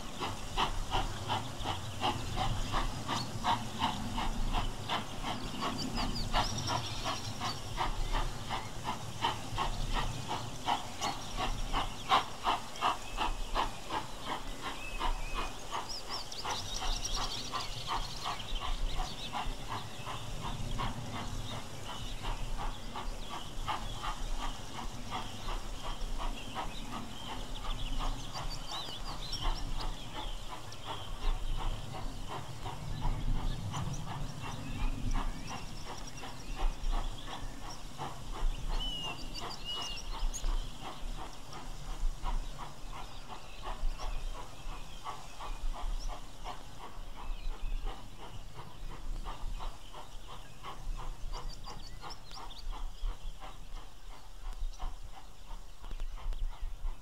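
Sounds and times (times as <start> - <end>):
steam locomotive exhaust chuffing: 0.0 - 57.0.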